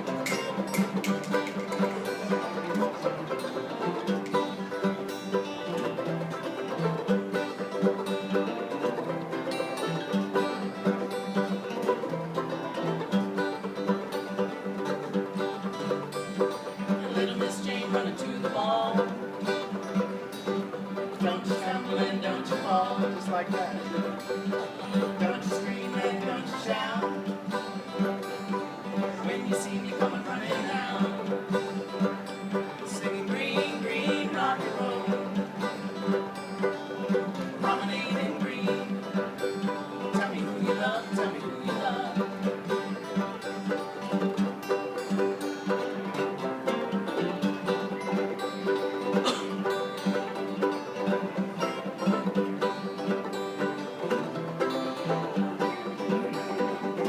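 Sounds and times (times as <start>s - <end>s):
plucked string music: 0.0s - 57.0s.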